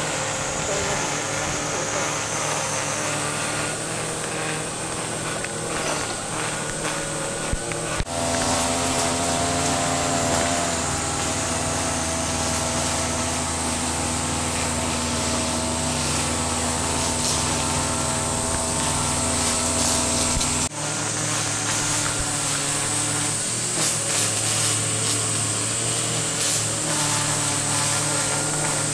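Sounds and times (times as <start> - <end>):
brush cutter engine running: 0.0 - 28.9
cicadas buzzing: 0.0 - 28.9.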